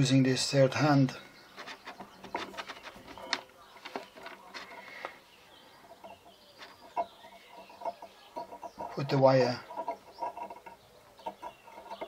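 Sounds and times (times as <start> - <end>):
small metal clicks and rattles: 1.6 - 5.2, 5.8 - 12.0.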